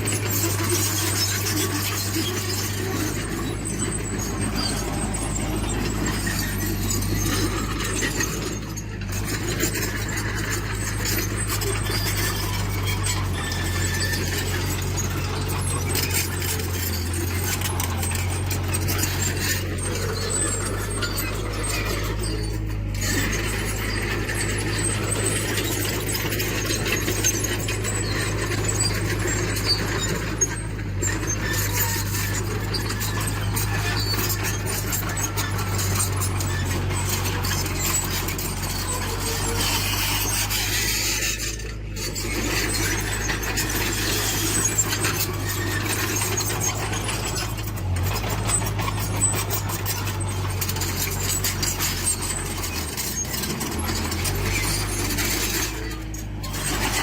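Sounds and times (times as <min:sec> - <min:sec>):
diesel engine drone: 0:00.0 - 0:57.0
metal parts squeaking and clicking: 0:00.0 - 0:57.0.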